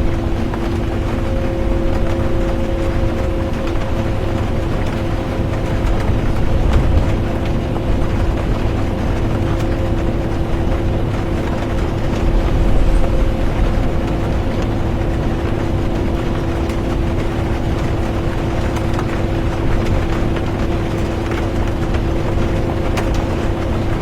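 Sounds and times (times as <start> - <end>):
bus engine and road rumble: 0.0 - 24.0
constant whine: 0.0 - 24.0
rain on a bus: 0.0 - 24.0.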